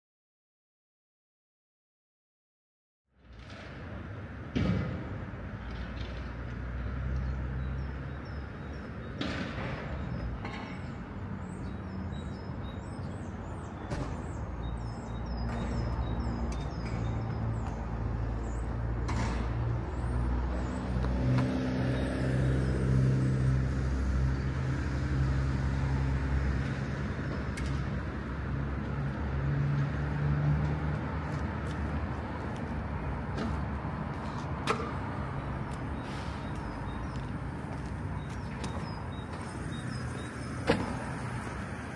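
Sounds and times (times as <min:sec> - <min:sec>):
vehicle engines humming: 0:03.2 - 0:41.9.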